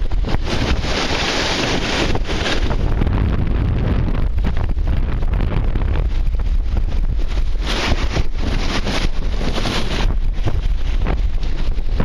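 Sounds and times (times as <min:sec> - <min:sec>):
water rushing past hull: 0:00.0 - 0:12.0
wind buffeting microphone: 0:00.0 - 0:12.0.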